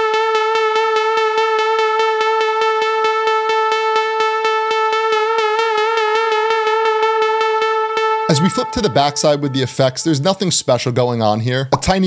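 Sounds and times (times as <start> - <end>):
synthesizer lead note: 0.0 - 10.1.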